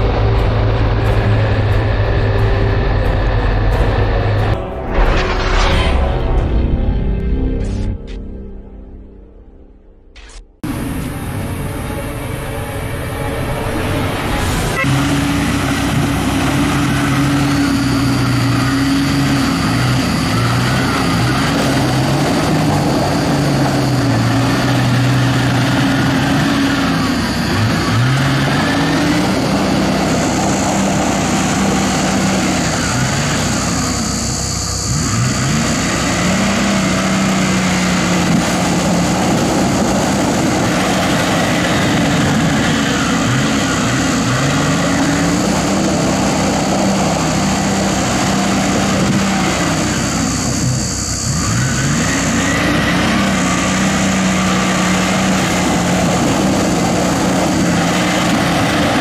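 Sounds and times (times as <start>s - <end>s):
diesel engine revving: 0.0s - 7.7s, 10.6s - 59.0s
high whine: 0.0s - 59.0s.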